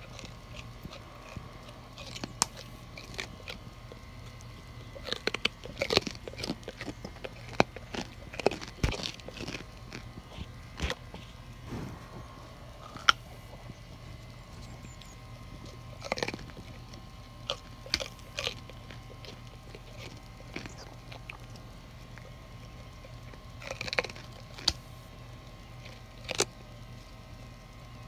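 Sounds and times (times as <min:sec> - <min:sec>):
deer crunching a carrot: 0:00.0 - 0:28.0.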